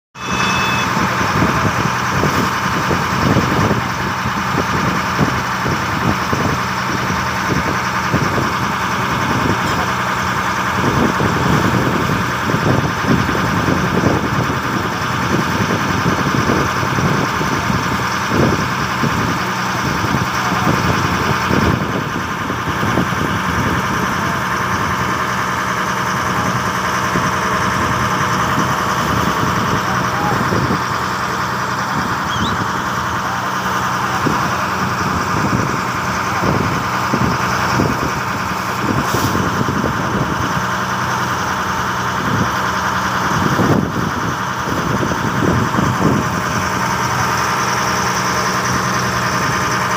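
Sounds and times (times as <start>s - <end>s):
boat engine running: 0.2s - 49.9s.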